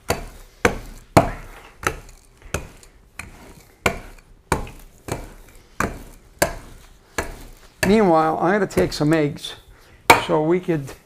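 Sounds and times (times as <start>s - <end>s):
rolling pin knocking on countertop: 0.0s - 9.2s.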